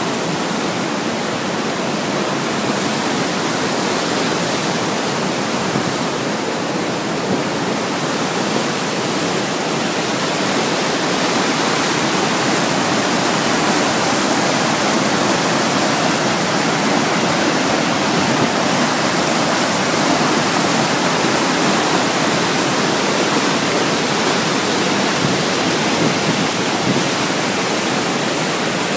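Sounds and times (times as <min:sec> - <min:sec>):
river rapids rushing over boulders: 0:00.0 - 0:28.9.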